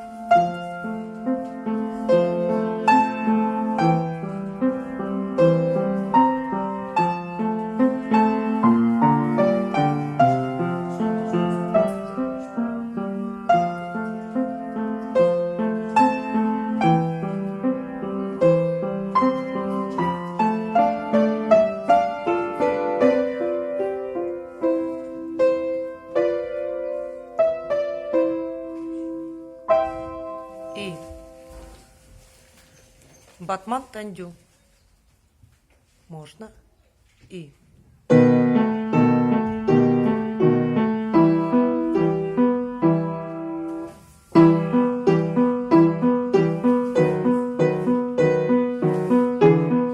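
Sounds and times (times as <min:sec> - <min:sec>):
slow piano accompaniment: 0:00.0 - 0:35.1, 0:38.0 - 0:49.9.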